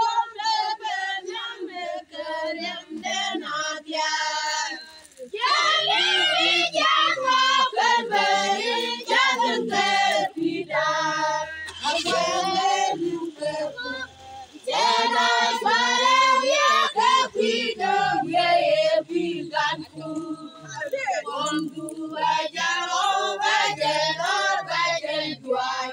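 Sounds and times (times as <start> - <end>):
group of women singing: 0.0 - 25.9.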